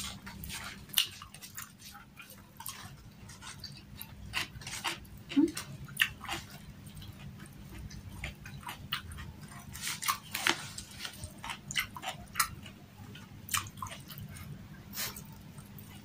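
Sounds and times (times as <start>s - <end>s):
chewing and lip smacks: 0.0s - 16.0s.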